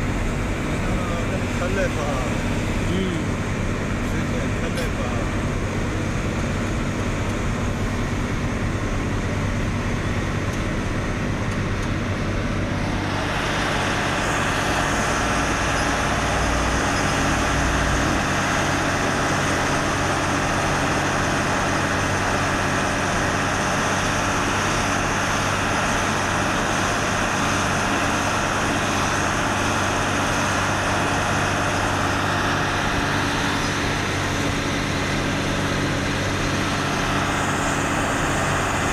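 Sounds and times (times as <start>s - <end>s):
road and tyre noise: 0.0s - 38.9s
truck engine drone: 0.0s - 38.9s.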